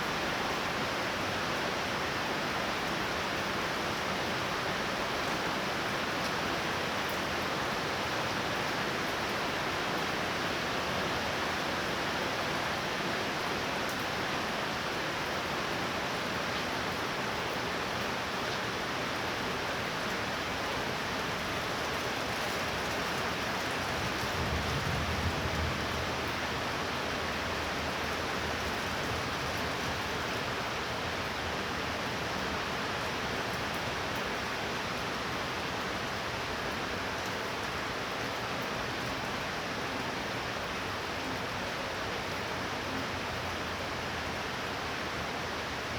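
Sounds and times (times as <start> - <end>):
heavy rain falling: 0.2 - 45.9.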